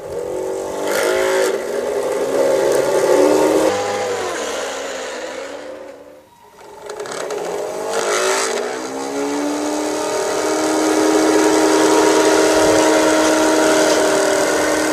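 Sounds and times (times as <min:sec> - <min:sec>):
model train motor whine: 0:00.0 - 0:14.9.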